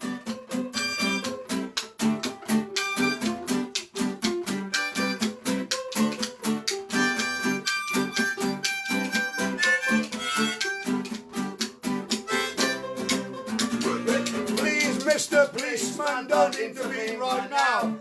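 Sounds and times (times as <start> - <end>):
fast strummed guitar: 0.0 - 18.0.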